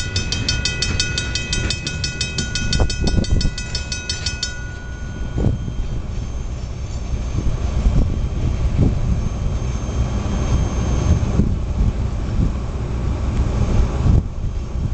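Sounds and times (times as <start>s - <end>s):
freight train rolling past: 0.0s - 14.9s.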